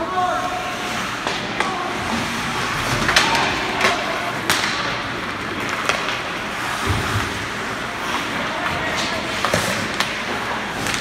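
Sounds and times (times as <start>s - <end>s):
hockey sticks and puck clacking: 0.8s - 11.0s.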